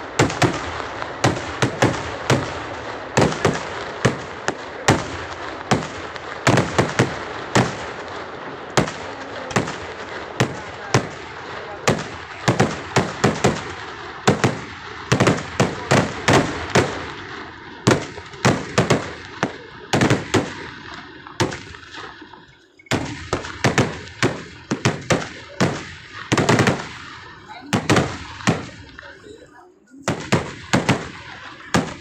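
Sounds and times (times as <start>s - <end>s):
firework shells bursting: 0.0s - 32.0s.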